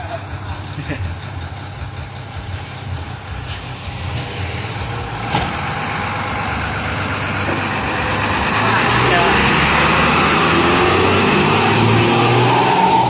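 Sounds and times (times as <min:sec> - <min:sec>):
bus diesel engine: 0:00.0 - 0:13.0.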